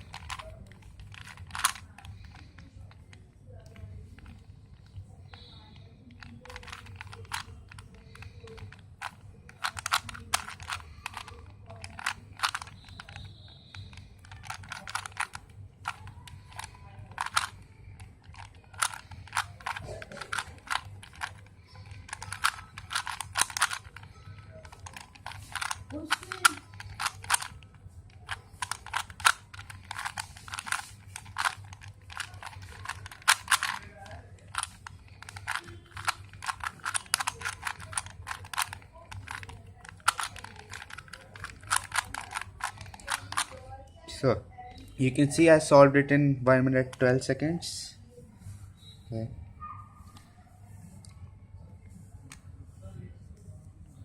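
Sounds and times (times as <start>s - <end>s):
plastic cube layers clicking: 0.0s - 43.6s.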